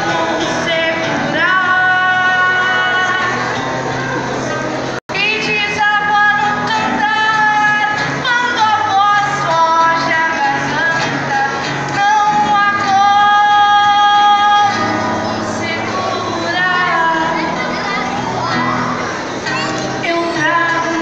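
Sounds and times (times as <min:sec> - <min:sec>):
woman singing into microphone: 0:00.0 - 0:03.7, 0:05.1 - 0:17.7, 0:19.8 - 0:21.0
acoustic guitar: 0:00.0 - 0:21.0.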